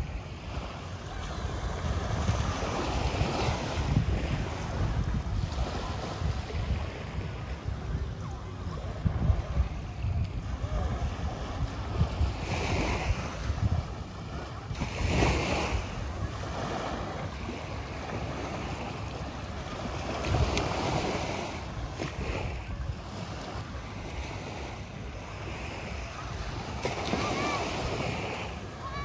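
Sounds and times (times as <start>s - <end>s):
small waves washing onto sand: 0.0s - 29.0s
wind rumbling on microphone: 0.0s - 29.0s.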